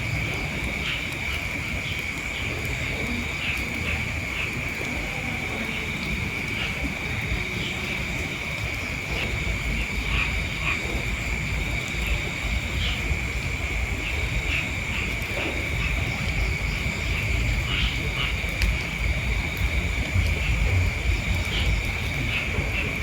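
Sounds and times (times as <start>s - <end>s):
frogs and insects droning: 0.0s - 23.0s.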